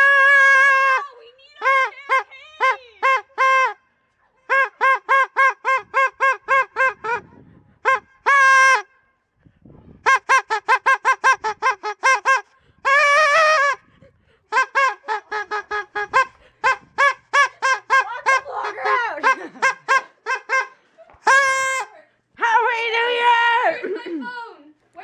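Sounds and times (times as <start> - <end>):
party horns tooting: 0.0 - 7.2, 7.8 - 9.1, 10.0 - 13.8, 14.5 - 23.7.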